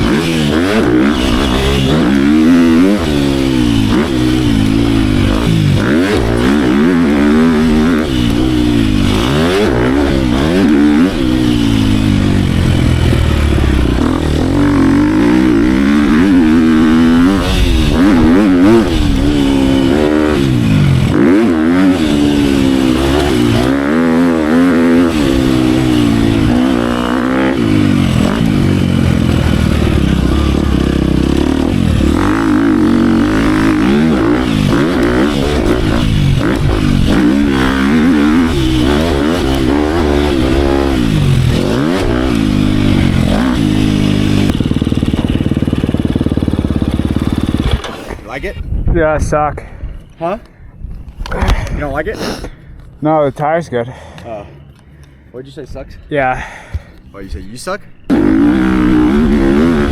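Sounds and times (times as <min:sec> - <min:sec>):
dirt bike engine revving: 0:00.0 - 0:48.5, 0:58.0 - 0:59.9.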